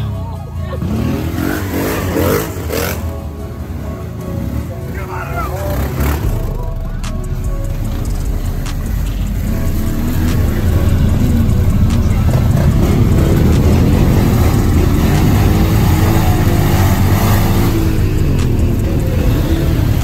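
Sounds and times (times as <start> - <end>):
off-road engines revving: 0.0 - 20.0.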